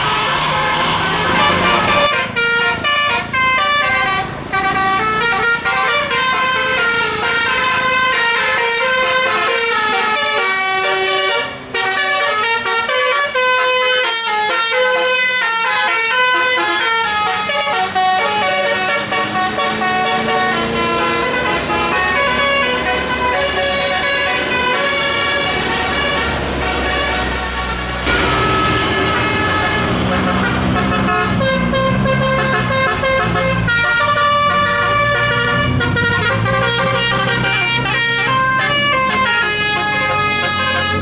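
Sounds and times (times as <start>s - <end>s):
musical bus horn melody: 0.0s - 41.0s.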